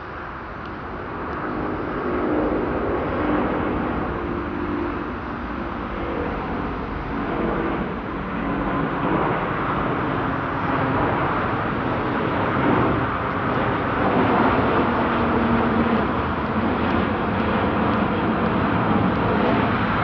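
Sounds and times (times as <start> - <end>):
jet airliner engines roaring: 0.0 - 20.0.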